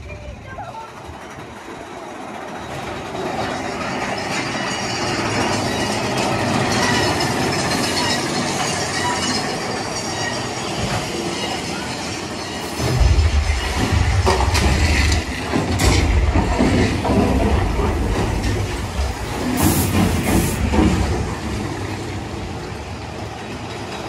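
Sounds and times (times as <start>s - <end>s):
roller coaster cars rattling: 0.0s - 24.0s.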